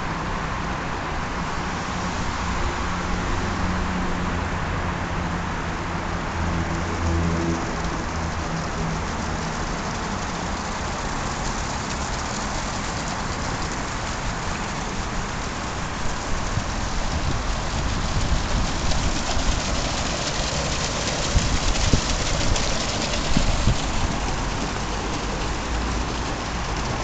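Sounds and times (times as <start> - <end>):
fountain water splashing into pool: 0.1 - 27.0.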